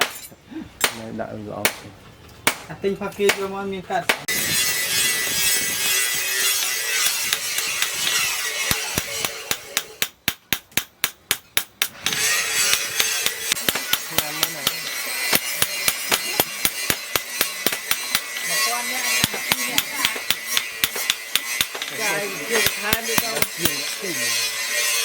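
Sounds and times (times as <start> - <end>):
hammer striking steel on anvil: 4.1 - 25.0.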